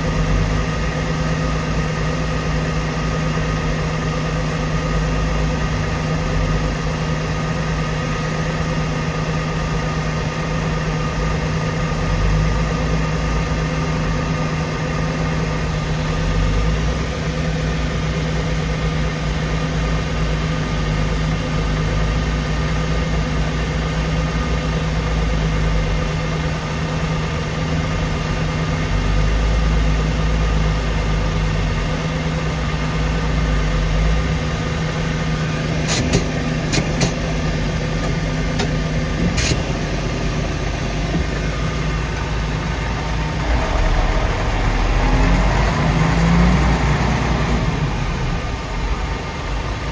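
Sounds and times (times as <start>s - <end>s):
engine droning hum: 0.0s - 49.9s.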